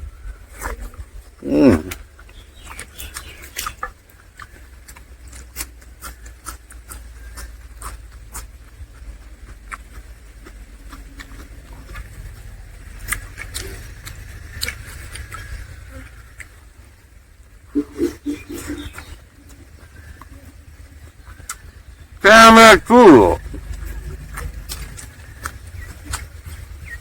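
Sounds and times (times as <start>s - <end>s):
wet chewing and lip smacks: 0.4s - 22.0s, 23.4s - 27.0s.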